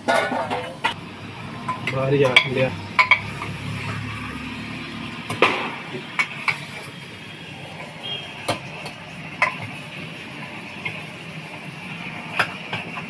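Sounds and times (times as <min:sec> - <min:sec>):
food sizzling: 0:00.4 - 0:13.0.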